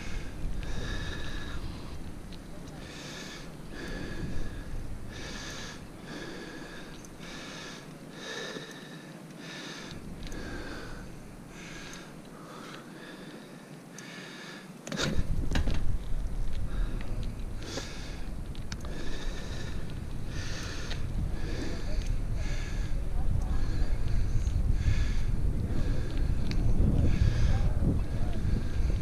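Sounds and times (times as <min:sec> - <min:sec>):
heavy rhythmic breathing: 0:00.0 - 0:15.5, 0:16.4 - 0:29.0.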